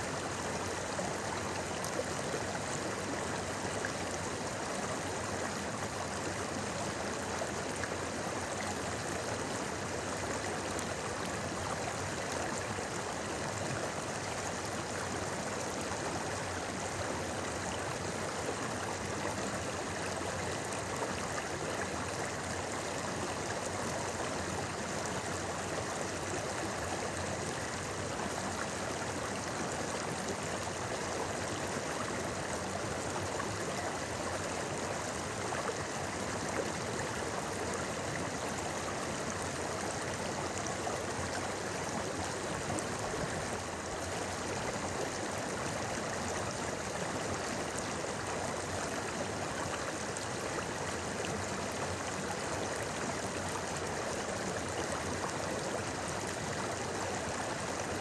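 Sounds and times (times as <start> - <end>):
river babbling over stones: 0.0 - 58.0.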